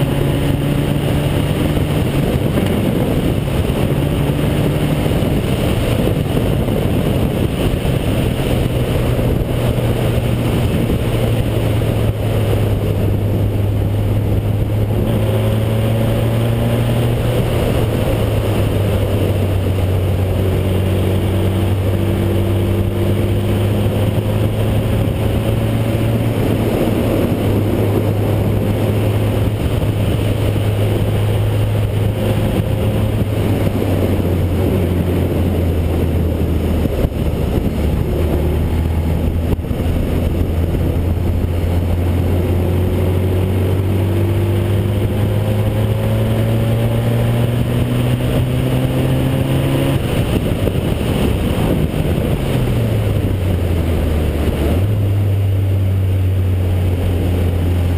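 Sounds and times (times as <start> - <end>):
race car engine at speed: 0.0 - 57.9.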